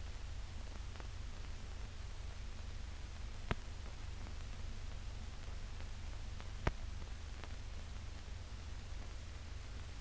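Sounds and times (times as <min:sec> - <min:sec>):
soundtrack hiss and hum: 0:00.0 - 0:10.0.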